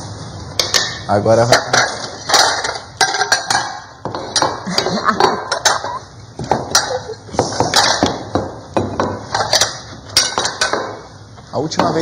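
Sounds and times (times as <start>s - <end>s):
dishes and cutlery clinking: 0.6s - 11.1s
dishes clattering: 0.6s - 11.1s.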